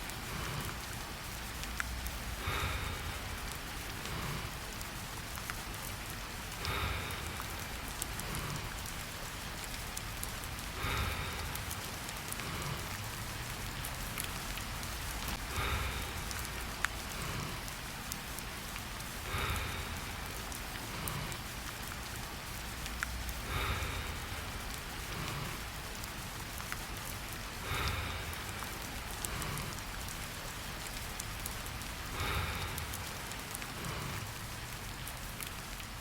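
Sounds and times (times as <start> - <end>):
soft slow breath: 0.0 - 36.0
steady rain: 0.0 - 36.0.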